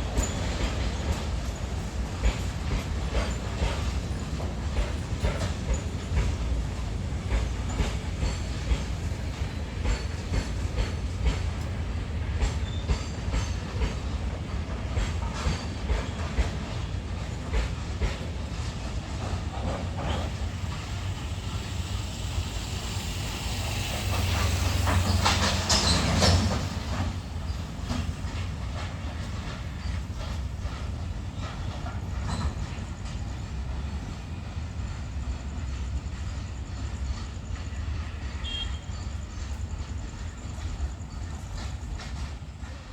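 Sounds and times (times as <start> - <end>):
low rumble of train: 0.0 - 42.9
train wheels clacking over rail joints: 0.0 - 42.9.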